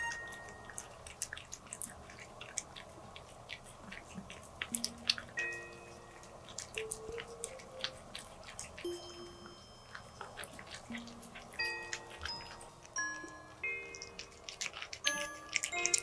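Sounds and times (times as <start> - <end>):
cat eating wet food: 0.0 - 16.0.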